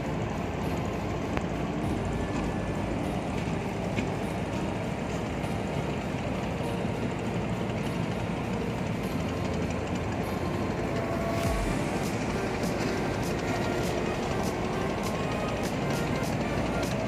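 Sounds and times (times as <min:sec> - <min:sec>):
diesel engine low rumble: 0:00.0 - 0:17.0.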